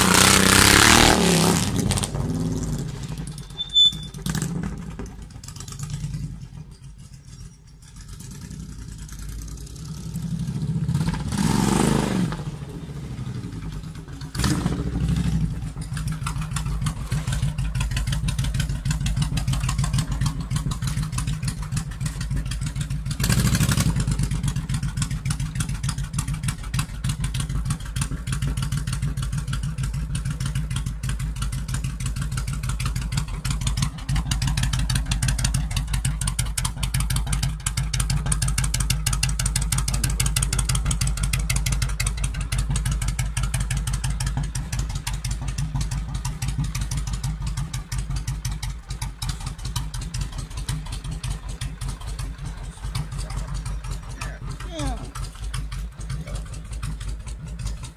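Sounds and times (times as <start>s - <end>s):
motorcycle engine idling: 1.8s - 11.3s, 11.9s - 57.9s.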